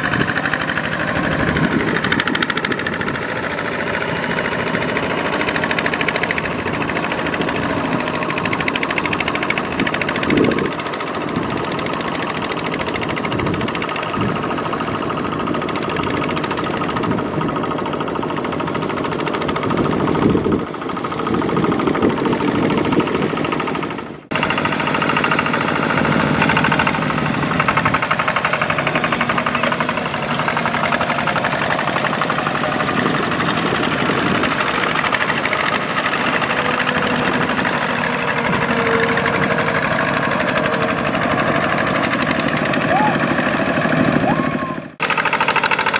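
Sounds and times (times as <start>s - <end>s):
diesel engine chugging: 0.0s - 45.9s.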